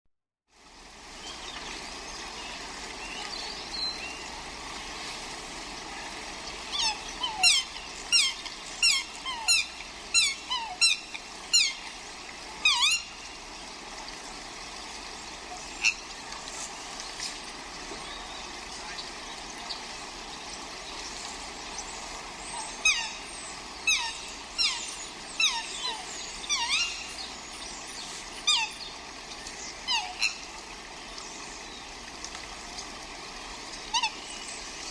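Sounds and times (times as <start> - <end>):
steady background hiss: 0.6 - 34.9.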